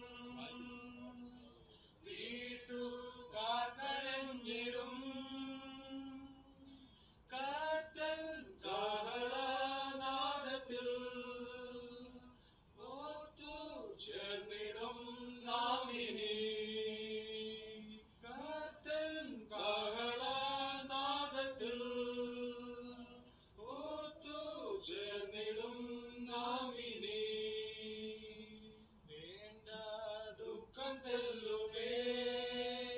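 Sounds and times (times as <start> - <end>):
voices singing a hymn: 0.0 - 32.9.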